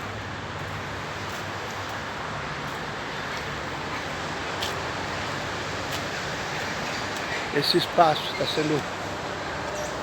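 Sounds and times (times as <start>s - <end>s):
distant road traffic rumble: 0.0s - 10.0s.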